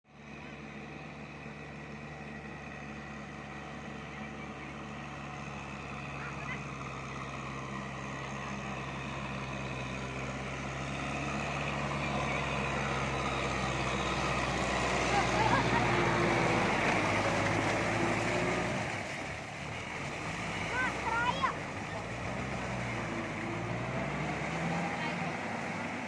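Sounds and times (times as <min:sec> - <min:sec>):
tractor diesel engine running: 0:00.1 - 0:26.0.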